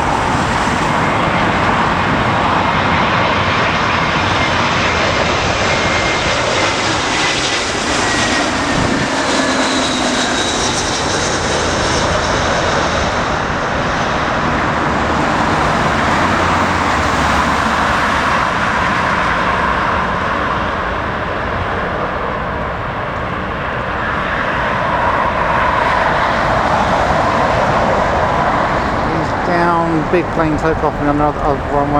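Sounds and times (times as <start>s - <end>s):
high engine whine: 0.0s - 31.9s
jet engines roaring: 0.0s - 31.9s.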